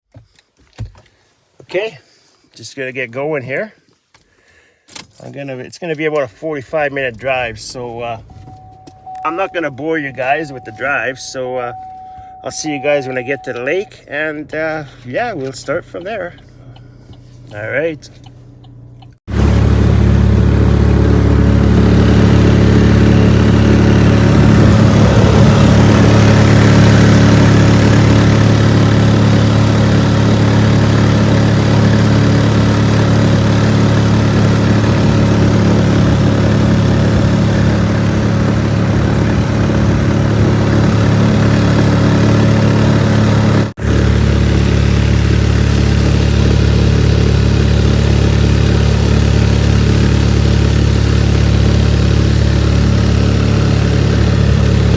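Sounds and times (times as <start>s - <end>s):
vehicle engine drone: 7.1s - 54.9s
road noise: 7.5s - 54.9s.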